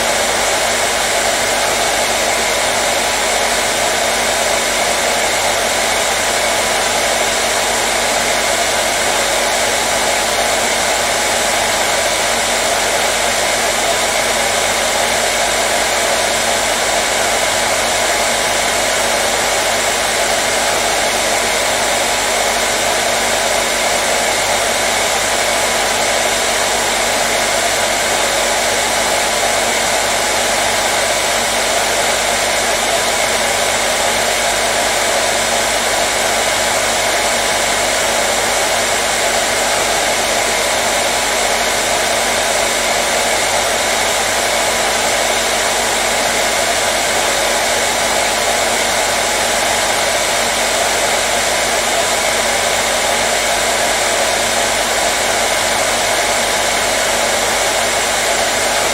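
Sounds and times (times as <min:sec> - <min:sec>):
hair dryer blowing: 0:00.0 - 0:58.9.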